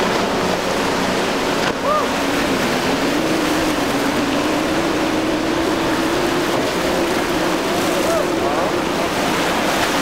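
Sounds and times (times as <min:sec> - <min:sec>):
outboard motor droning: 0:00.0 - 0:10.0
waves breaking: 0:00.0 - 0:10.0
wind: 0:00.0 - 0:10.0.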